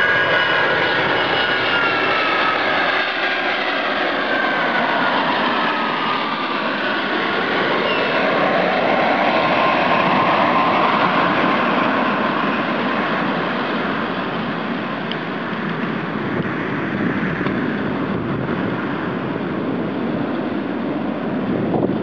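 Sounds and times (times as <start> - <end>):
jet engine whine: 0.0 - 22.0
jet engines roaring: 0.0 - 22.0.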